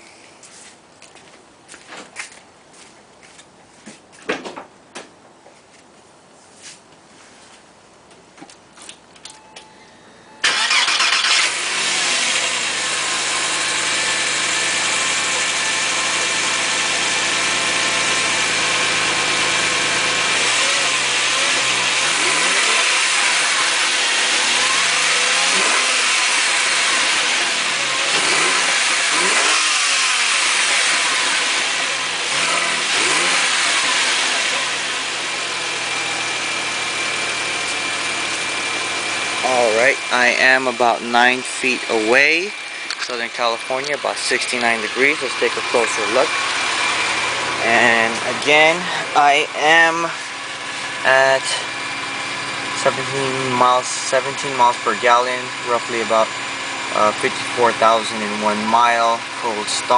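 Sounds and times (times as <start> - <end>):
car engine starting and idling: 9.2 - 59.9
car engine revving: 10.4 - 59.9.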